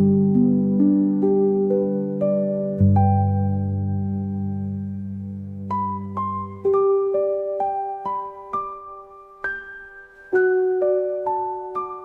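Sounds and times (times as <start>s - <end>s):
soft piano notes: 0.0s - 12.0s.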